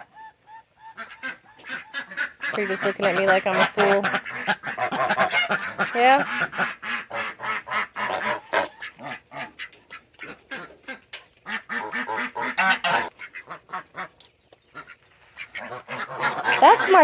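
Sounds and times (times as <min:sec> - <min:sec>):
ducks and geese quacking: 0:00.0 - 0:17.0.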